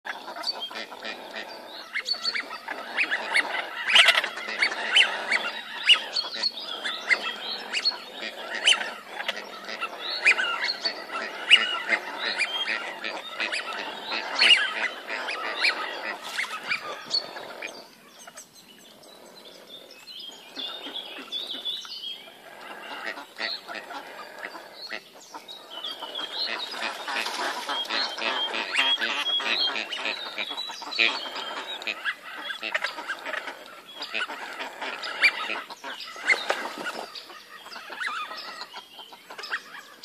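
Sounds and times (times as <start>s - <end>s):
flock of ducks calling: 0.1s - 18.4s, 22.3s - 40.0s.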